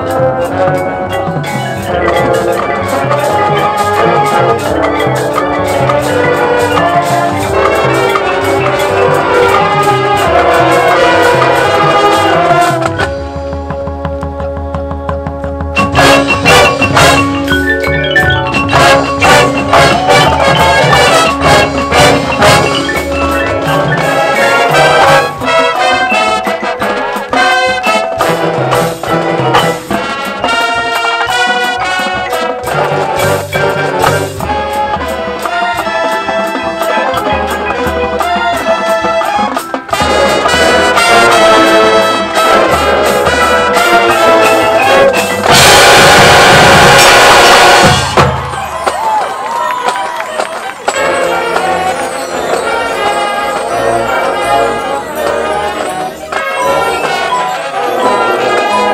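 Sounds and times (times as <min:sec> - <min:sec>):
marching band playing: 0:00.0 - 0:58.9
marimbas and mallet percussion: 0:00.0 - 0:58.9.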